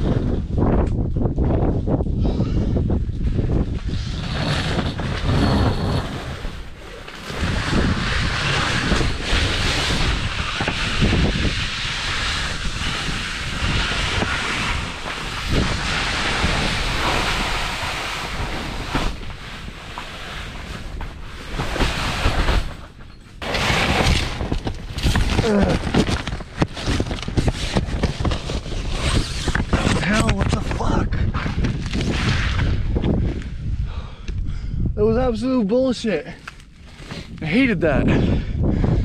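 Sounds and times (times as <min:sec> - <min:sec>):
strong wind buffeting microphone: 0:00.0 - 0:39.0.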